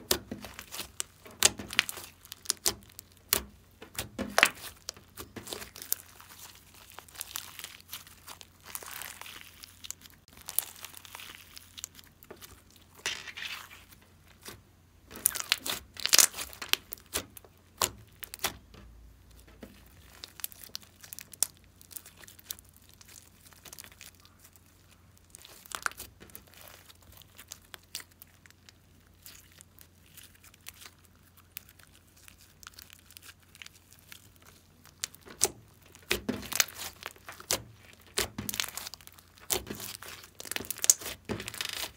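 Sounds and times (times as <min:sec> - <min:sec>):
slime crackling and clicking: 0:00.0 - 0:13.5, 0:14.4 - 0:18.6, 0:19.3 - 0:41.9.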